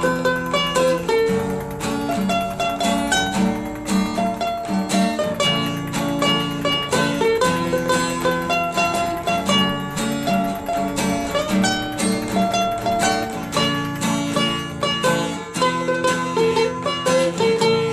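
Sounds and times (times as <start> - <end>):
plucked-string instrumental music: 0.0 - 17.9.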